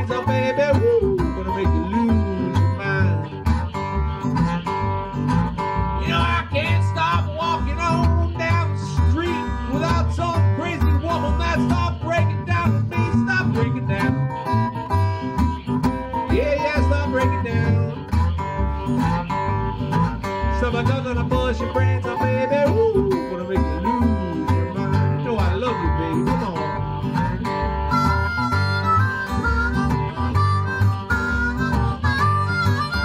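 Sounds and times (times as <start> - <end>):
acoustic guitar picking: 0.0 - 33.0
bending lead guitar line: 0.0 - 33.0
plucked washtub bass: 0.0 - 33.0.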